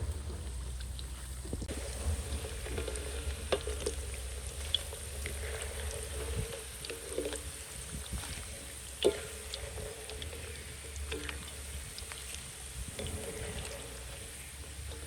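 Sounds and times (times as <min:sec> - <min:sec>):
food sizzling in a pan: 0:01.6 - 0:15.0.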